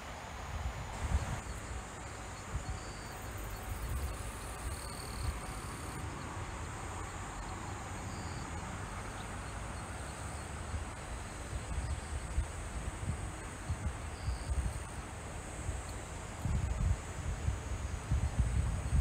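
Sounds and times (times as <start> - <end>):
insects hissing: 0.0 - 19.0.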